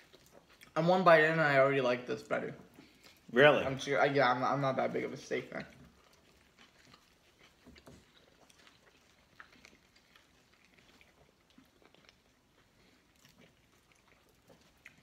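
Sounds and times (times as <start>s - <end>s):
faint chewing and mouth clicks: 0.0s - 15.0s.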